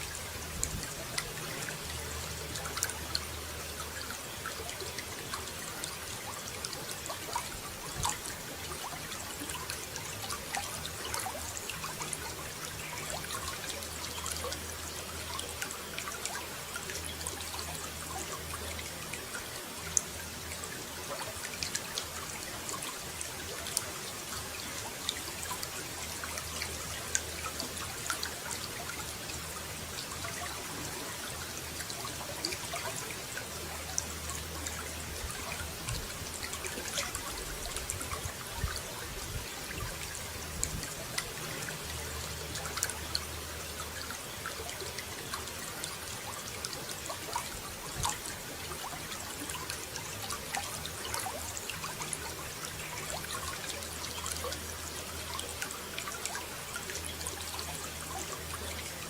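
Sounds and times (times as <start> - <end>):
running water trickling and splashing: 0.0 - 59.0.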